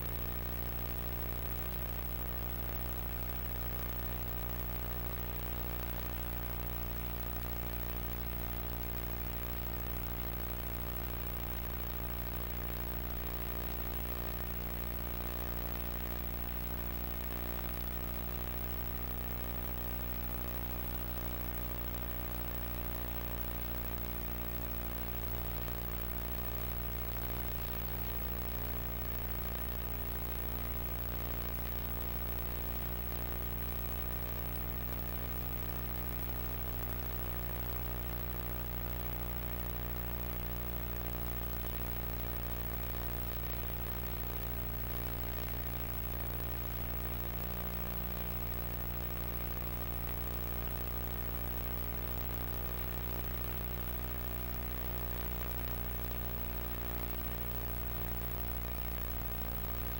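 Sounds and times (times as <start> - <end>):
electrical hum and buzz: 0.0 - 59.9.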